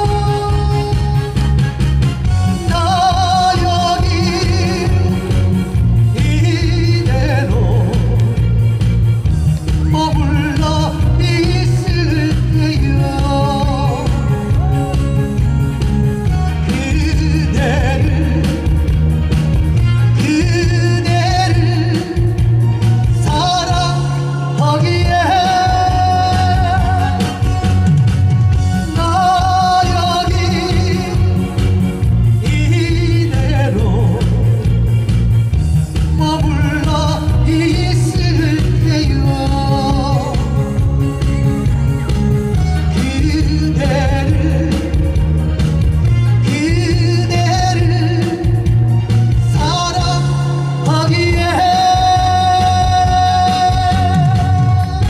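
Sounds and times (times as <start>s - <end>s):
man singing into microphone: 0.0s - 35.1s, 35.9s - 55.0s
amplified backing music: 0.0s - 55.0s.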